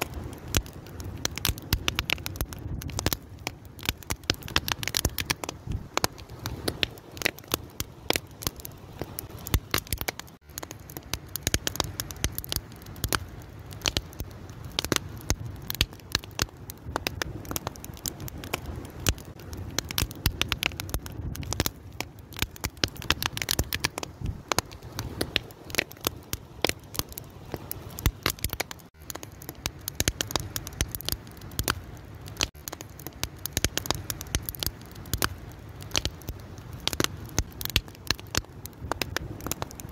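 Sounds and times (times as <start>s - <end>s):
open fire crackling: 0.0s - 39.9s.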